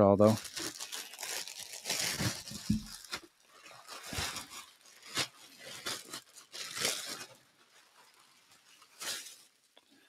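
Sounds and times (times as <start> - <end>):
plastic bags crinkling: 0.2 - 10.0.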